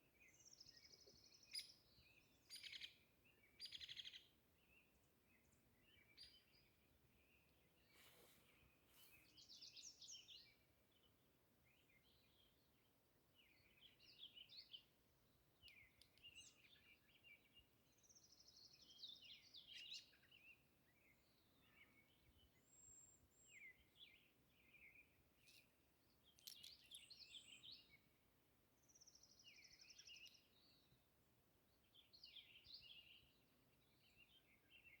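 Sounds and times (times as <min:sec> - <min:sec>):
faint songbird chirps and trills: 0:00.0 - 0:35.0.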